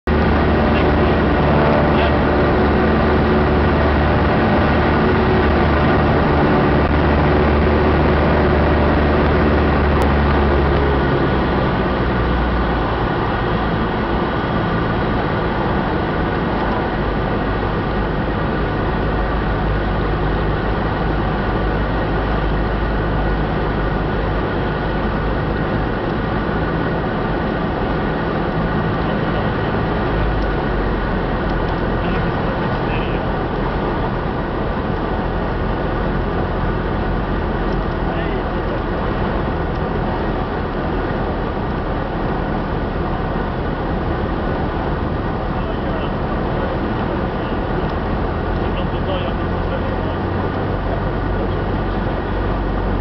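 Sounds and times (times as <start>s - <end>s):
airflow noise: 0.0s - 53.0s
propeller engine droning: 0.0s - 53.0s.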